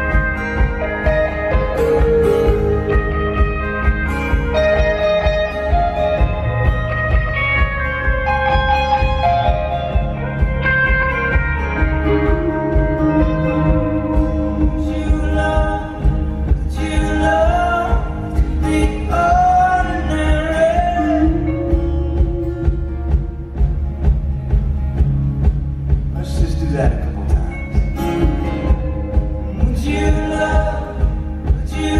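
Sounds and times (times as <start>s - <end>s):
electric guitar lead: 0.0s - 31.9s
live rock band: 0.0s - 31.9s.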